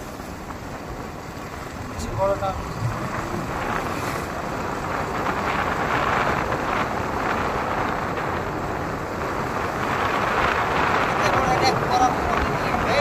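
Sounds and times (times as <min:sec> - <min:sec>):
motorcycle road noise: 0:00.0 - 0:13.0
wind rushing over microphone: 0:00.0 - 0:13.0.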